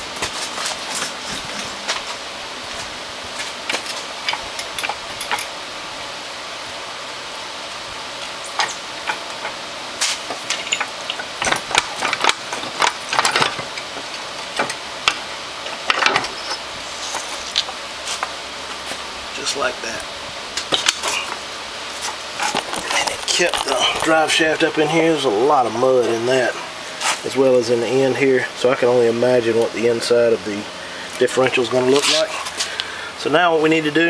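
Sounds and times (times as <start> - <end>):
steady background hiss: 0.0 - 34.0.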